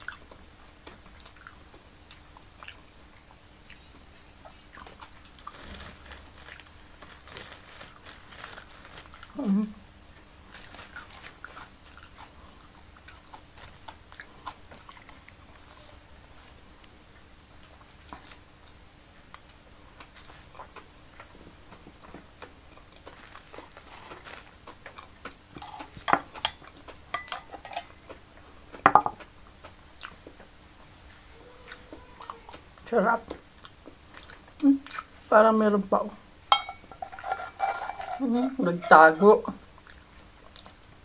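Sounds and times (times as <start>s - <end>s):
person chewing food: 0.0s - 9.4s, 10.5s - 35.2s, 39.6s - 41.0s.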